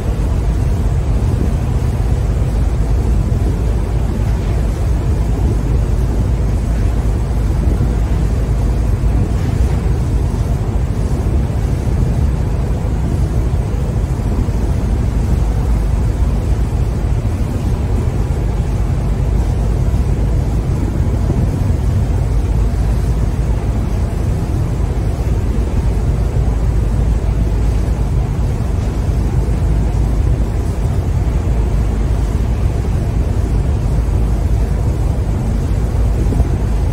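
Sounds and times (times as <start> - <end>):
deep rumble: 0.0 - 36.9
wake water rushing: 0.0 - 36.9.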